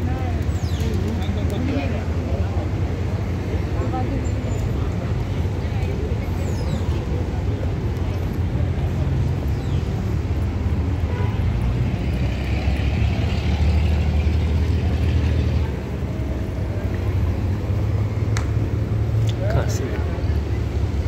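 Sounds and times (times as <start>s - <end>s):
low engine rumble: 0.0s - 21.0s
urban outdoor noise: 0.0s - 21.0s.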